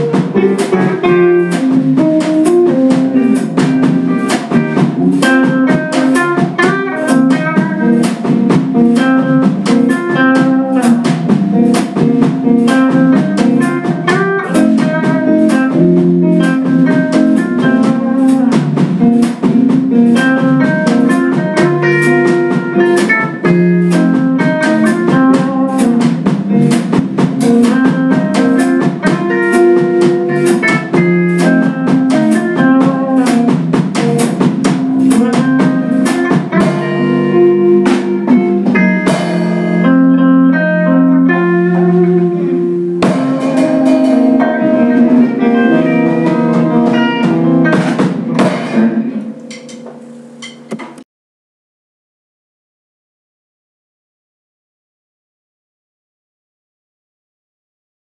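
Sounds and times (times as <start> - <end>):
drum kit steady beat: 0.0 - 51.0
electric guitars: 0.0 - 51.0.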